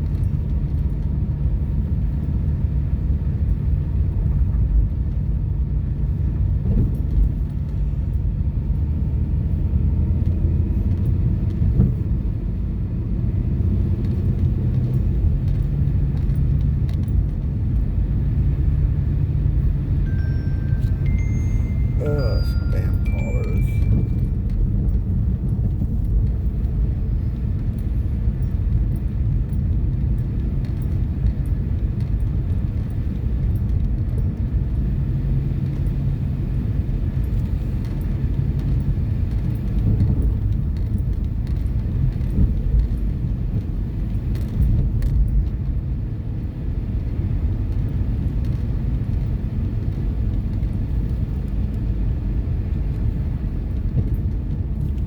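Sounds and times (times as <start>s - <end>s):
car engine and tyres on road: 0.0s - 55.0s.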